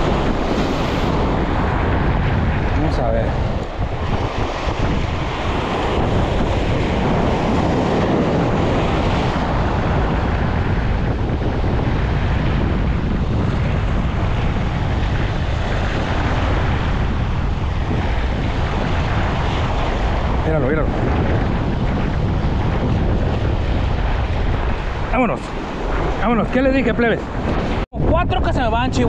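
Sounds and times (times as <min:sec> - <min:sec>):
surf breaking over rocks: 0:00.0 - 0:27.9
wind buffeting microphone: 0:00.0 - 0:29.0.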